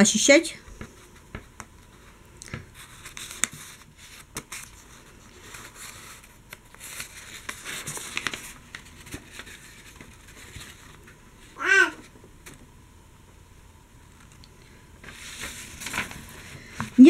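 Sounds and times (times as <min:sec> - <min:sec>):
book pages rustling: 0:00.7 - 0:12.6, 0:14.0 - 0:17.0.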